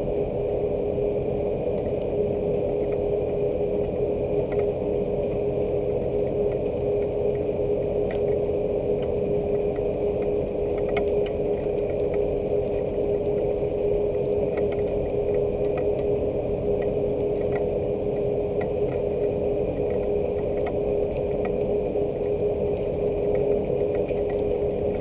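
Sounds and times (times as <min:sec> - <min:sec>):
machine drone: 0:00.0 - 0:25.0
steady rain: 0:00.0 - 0:25.0.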